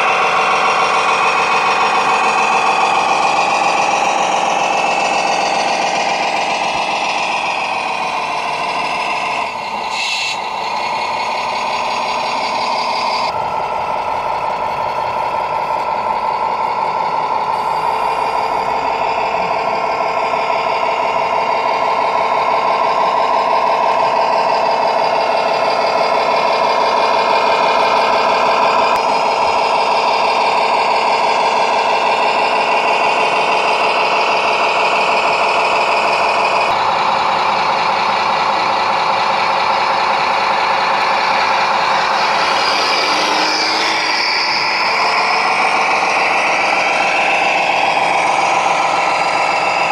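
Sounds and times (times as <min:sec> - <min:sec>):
recorded diesel truck engine drone: 0:00.0 - 0:49.9.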